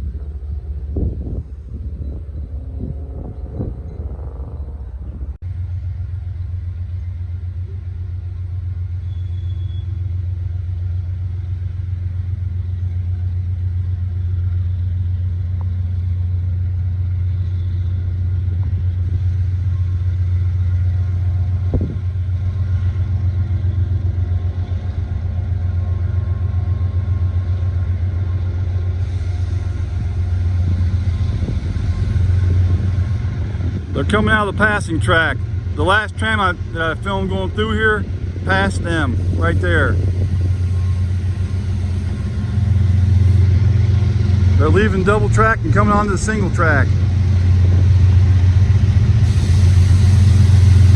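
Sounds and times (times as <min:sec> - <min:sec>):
diesel locomotive engine rumble: 0:00.0 - 0:50.9.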